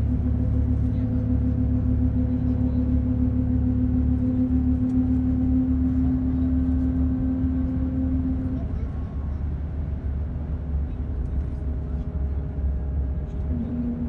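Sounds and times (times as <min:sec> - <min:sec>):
bus engine drone: 0:00.0 - 0:14.0
low road rumble: 0:00.0 - 0:14.0.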